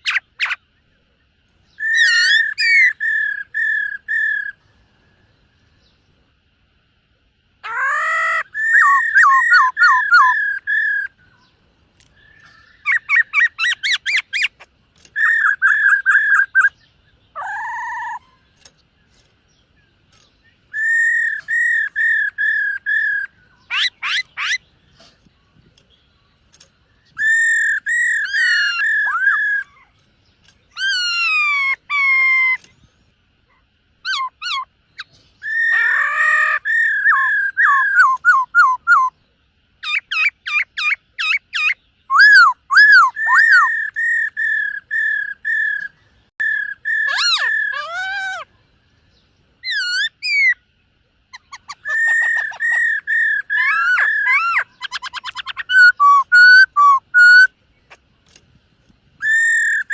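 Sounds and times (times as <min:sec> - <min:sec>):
bird singing whistled notes: 0:00.0 - 0:06.2, 0:07.6 - 0:57.6, 0:59.2 - 0:59.9.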